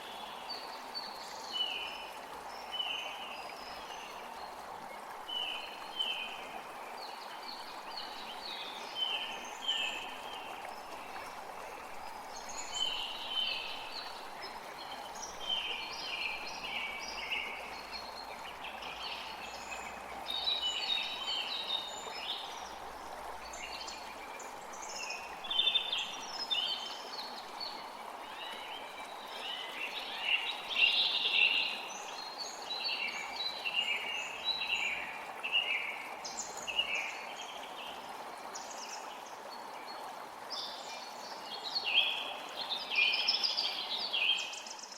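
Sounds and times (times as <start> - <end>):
flowing water rushing: 0.0 - 44.9.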